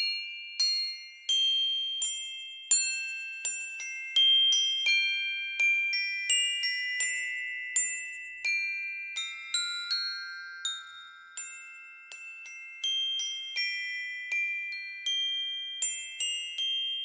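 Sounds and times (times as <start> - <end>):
bell-like melody: 0.0 - 17.0.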